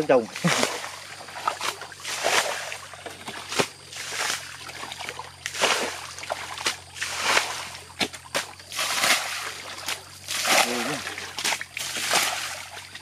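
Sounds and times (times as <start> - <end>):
faint water trickle: 0.0 - 13.0
running water splashing: 0.0 - 13.0.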